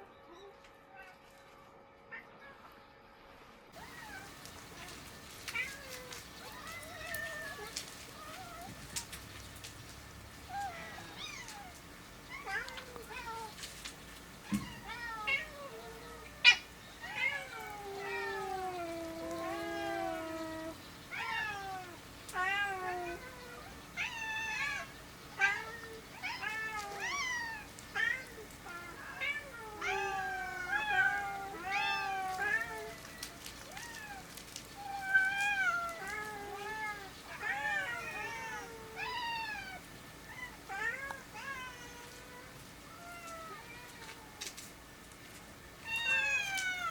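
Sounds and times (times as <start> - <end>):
cats meowing: 3.8 - 9.4, 10.5 - 44.6, 45.8 - 46.9.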